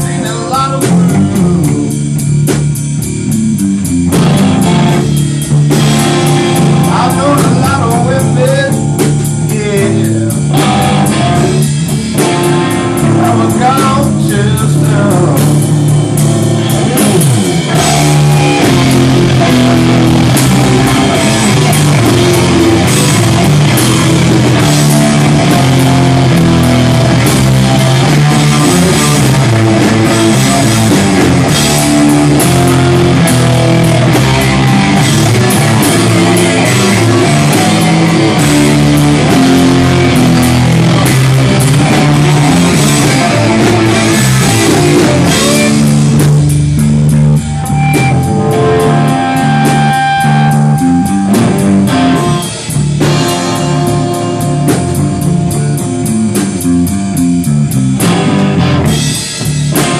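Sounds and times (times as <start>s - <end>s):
rock music with guitar and drums: 0.0s - 59.9s.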